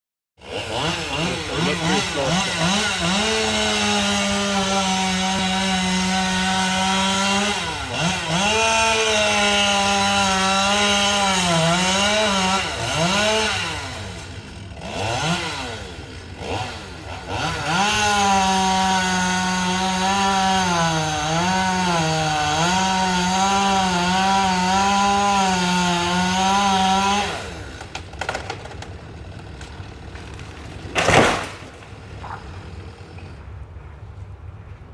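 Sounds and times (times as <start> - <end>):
chainsaw cutting wood: 0.4 - 33.4.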